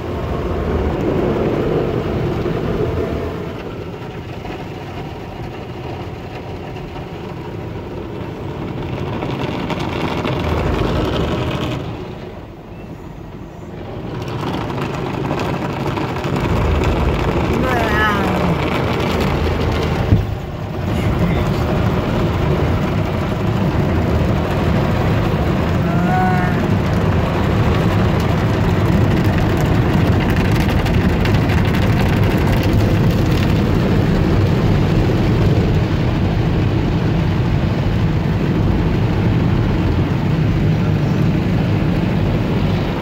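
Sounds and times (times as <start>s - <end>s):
car wash water jets: 0.0s - 43.0s.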